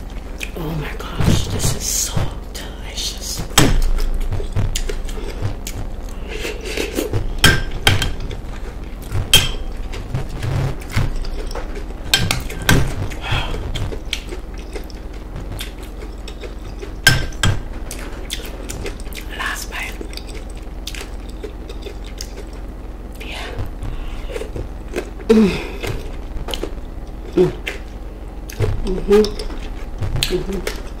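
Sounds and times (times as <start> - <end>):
chewing and wet mouth sounds: 0.0 - 0.6, 3.8 - 31.0.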